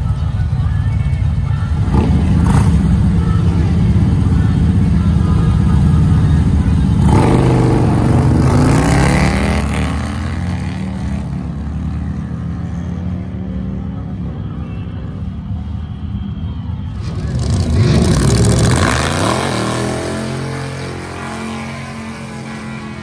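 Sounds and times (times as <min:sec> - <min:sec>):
motorcycle engines rumbling and launching: 0:00.0 - 0:23.0.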